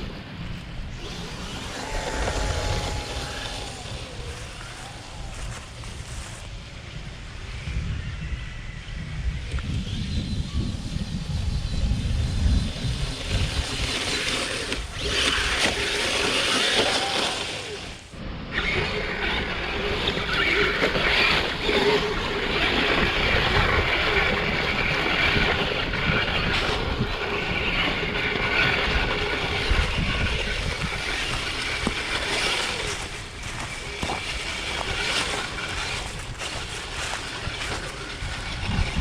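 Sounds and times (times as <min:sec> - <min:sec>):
rc vehicle motor whine: 0:00.0 - 0:39.0
wind on microphone: 0:00.0 - 0:39.0.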